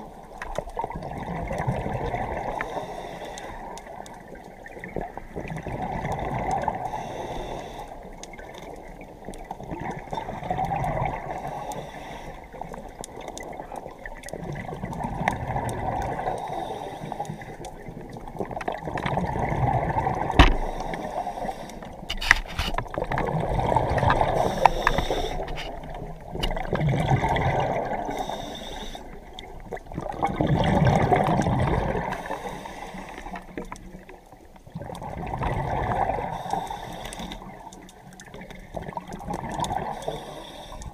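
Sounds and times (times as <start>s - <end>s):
underwater bubbles gurgling: 0.0s - 40.9s.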